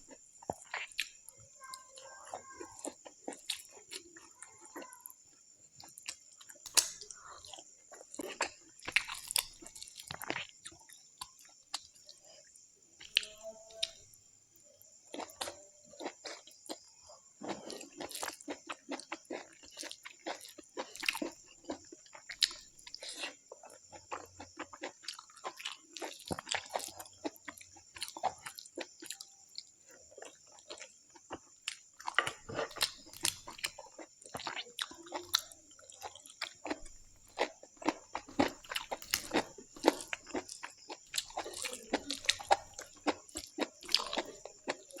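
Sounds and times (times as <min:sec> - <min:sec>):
crunch: 0:00.0 - 0:14.2, 0:14.8 - 0:45.0
person chewing food: 0:00.0 - 0:14.2, 0:14.8 - 0:45.0.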